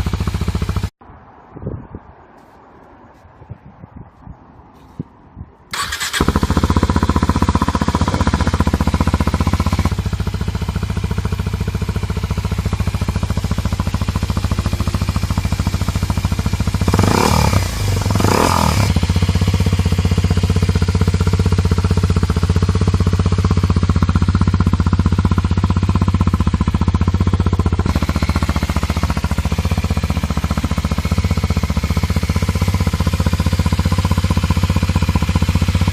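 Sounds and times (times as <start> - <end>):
motorcycle engine idling: 0.0 - 1.0, 5.7 - 35.9.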